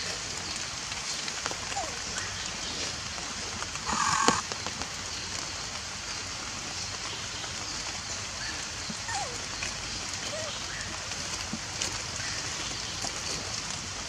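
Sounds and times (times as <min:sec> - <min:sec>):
rain falling on leaves: 0:00.0 - 0:14.0.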